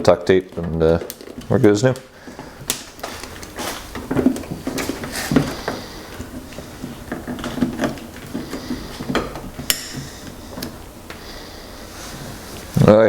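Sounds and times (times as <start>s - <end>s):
tools and parts clattering: 0.0s - 11.0s.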